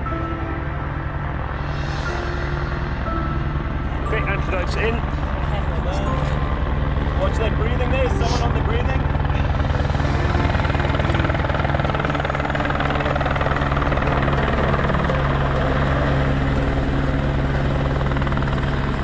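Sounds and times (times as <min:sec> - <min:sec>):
helicopter engine drone: 0:00.0 - 0:19.0
helicopter rotor chopping: 0:00.0 - 0:19.0
thin high whine: 0:00.0 - 0:19.0.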